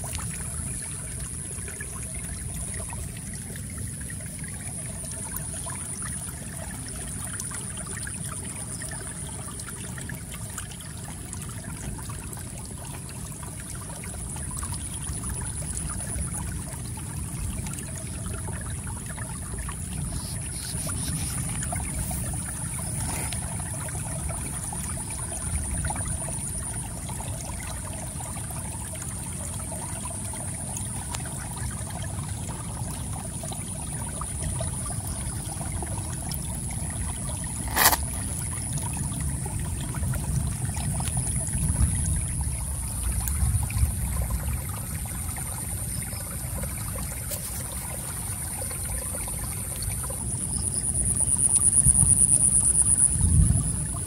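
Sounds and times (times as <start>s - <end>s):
crickets trilling: 0.0s - 10.9s, 12.8s - 54.0s
stream trickling over rocks: 0.0s - 54.0s.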